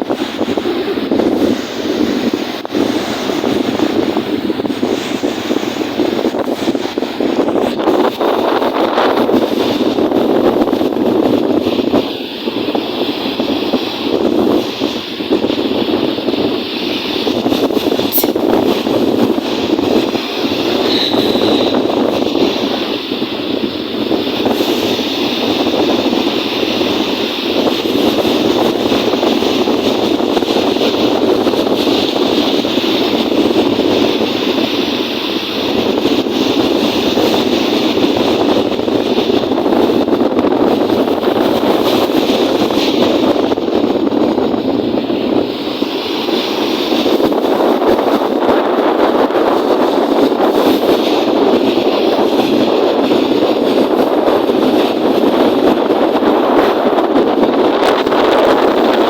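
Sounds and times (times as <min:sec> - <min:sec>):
choppy lake waves: 0:00.0 - 0:59.0
wind on microphone: 0:00.0 - 0:59.0.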